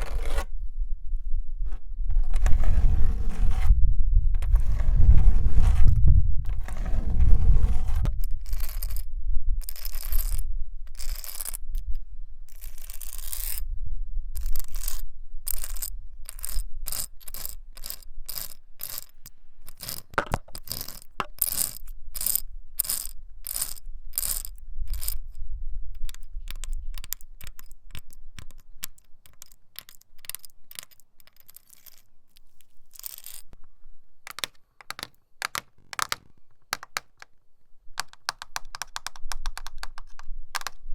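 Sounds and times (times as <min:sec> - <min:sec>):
metal nail scratching a wall: 0:00.0 - 0:00.6, 0:01.7 - 0:09.0, 0:09.6 - 0:11.9, 0:12.5 - 0:13.6, 0:14.4 - 0:33.6, 0:34.3 - 0:37.3, 0:38.0 - 0:40.9.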